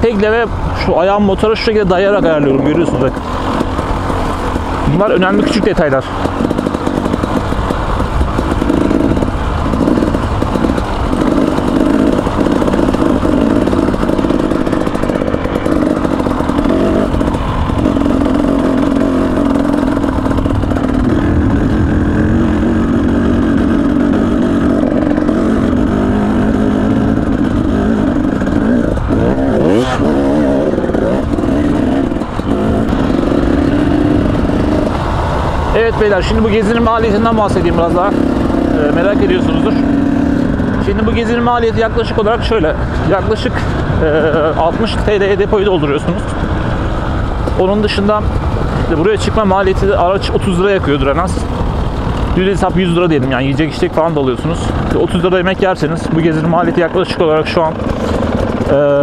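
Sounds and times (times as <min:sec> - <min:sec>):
two-stroke dirt bike engine: 0:00.0 - 0:59.0.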